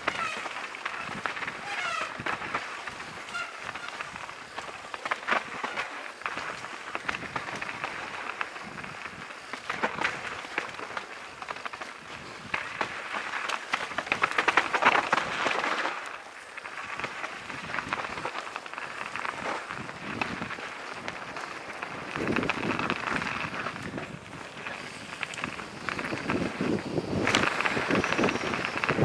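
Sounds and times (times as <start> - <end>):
bike clattering over bumps: 0.0 - 29.0
tyres crackling on leaves and dirt: 0.0 - 29.0.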